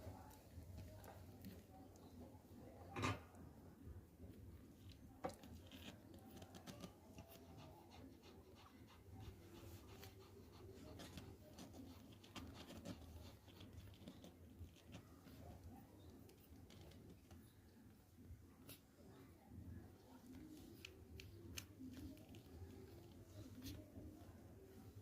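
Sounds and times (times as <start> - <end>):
puppies rustling and scratching: 0.0 - 2.3, 4.2 - 25.0.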